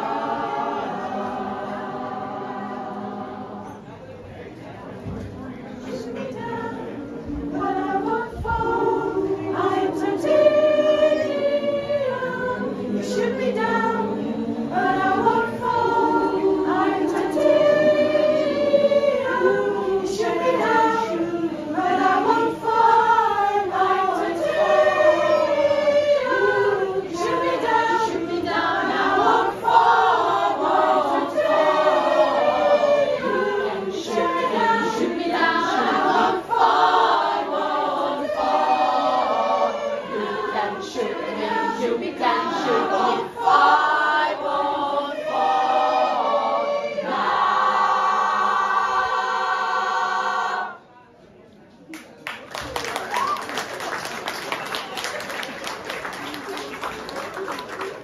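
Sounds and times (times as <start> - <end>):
choir singing a cappella: 0.0 - 4.1, 5.8 - 51.0.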